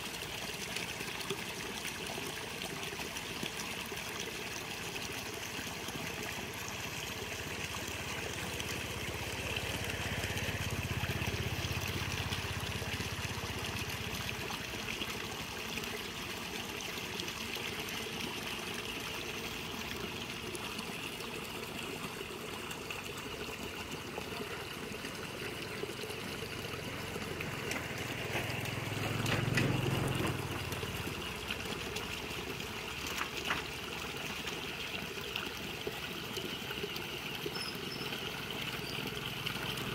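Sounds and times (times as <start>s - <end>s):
water trickling in a ditch: 0.0s - 39.9s.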